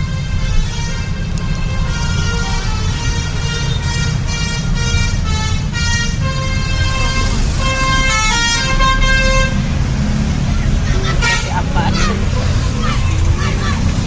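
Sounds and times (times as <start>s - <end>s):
multi-tone bus horn tune: 0.0s - 12.6s
engine and traffic rumble: 0.0s - 14.0s.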